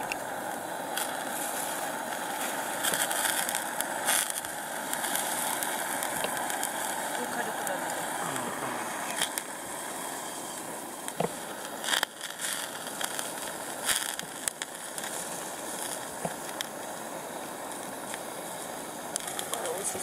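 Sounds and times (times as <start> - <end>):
gas burner hissing: 0.0 - 20.0
sausages sizzling on a grill: 0.0 - 20.0.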